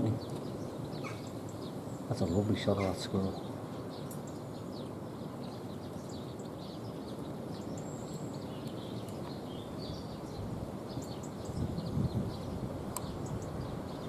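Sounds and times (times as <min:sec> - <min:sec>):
songbirds chirping: 0:00.0 - 0:14.0
thin whistled bird notes: 0:00.0 - 0:14.0.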